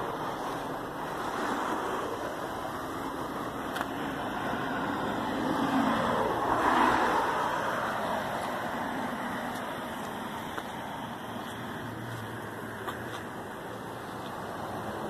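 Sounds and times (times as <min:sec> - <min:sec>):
road traffic going by: 0:00.0 - 0:15.0.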